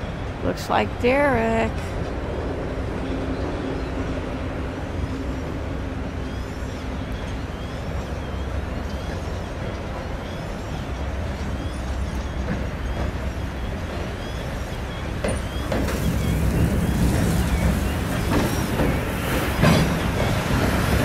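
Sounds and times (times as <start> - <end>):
freight train rumbling: 0.0 - 21.0
train wheels clicking and clunking: 1.3 - 21.0.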